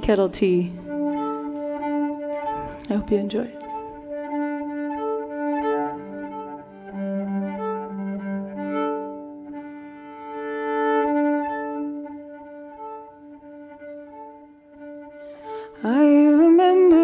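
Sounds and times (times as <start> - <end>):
cello bowed in sustained notes: 0.0 - 17.0.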